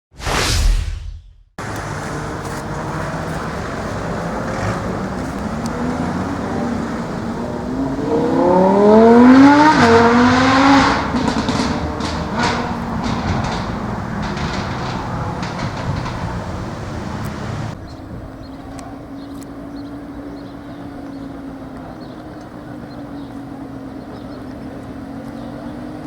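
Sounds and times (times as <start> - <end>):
exhaust crackles: 1.6 - 26.0
sports car engine accelerating: 1.6 - 26.0.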